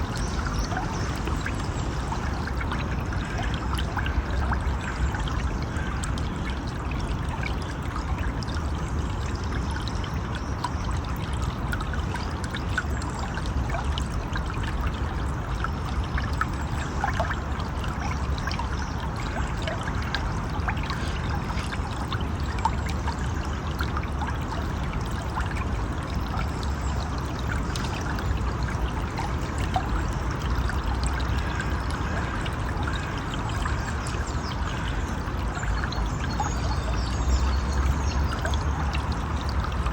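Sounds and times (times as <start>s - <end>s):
river water flowing: 0.0s - 39.9s
small trickles and splashes: 0.0s - 39.9s.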